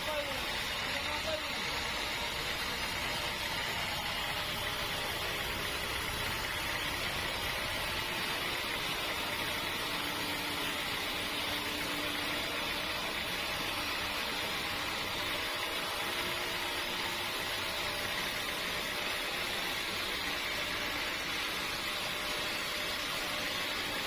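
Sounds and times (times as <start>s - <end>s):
steady machine noise: 0.0s - 24.0s.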